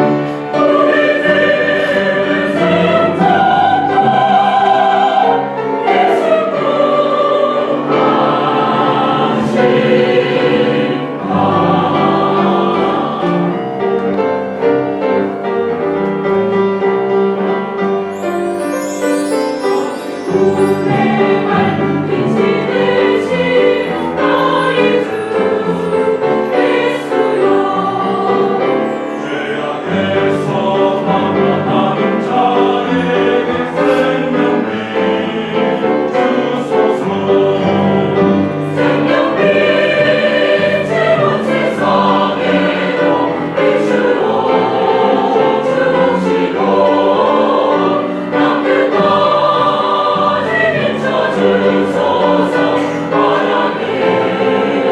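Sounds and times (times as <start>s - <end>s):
church choir singing: 0.0s - 54.9s.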